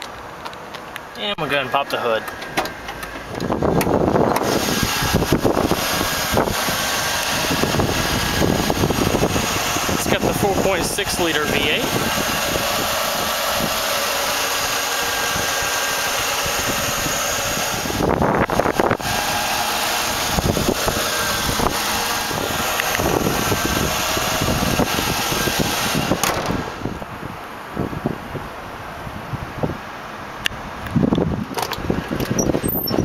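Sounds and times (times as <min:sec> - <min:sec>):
car engine idling: 0:00.0 - 0:27.2.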